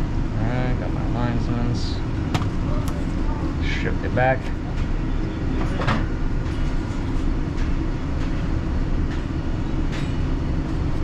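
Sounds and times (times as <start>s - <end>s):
low rumble of machinery: 0.0s - 11.0s.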